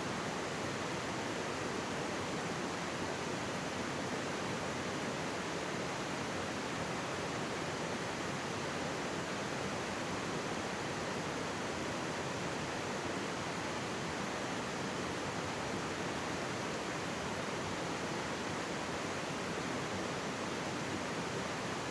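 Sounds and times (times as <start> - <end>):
stream water rushing: 0.0 - 21.9.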